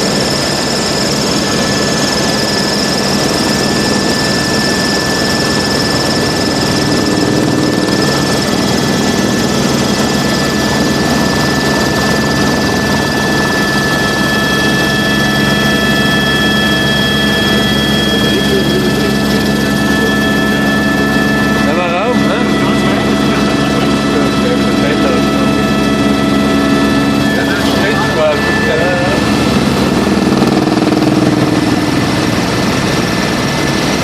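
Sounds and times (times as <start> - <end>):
helicopter turbine and rotor noise: 0.0 - 34.0
high steady whine: 0.0 - 34.0.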